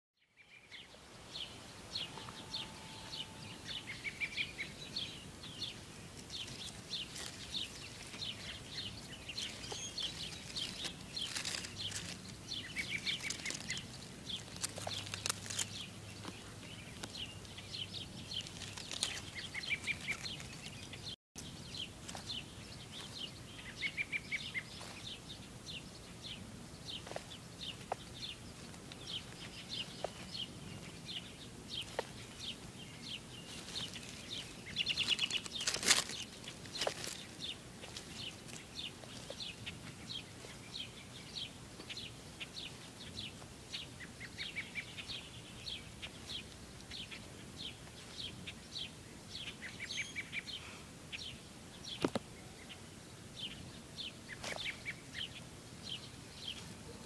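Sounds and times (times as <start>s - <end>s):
birds chirping: 0.2s - 57.0s.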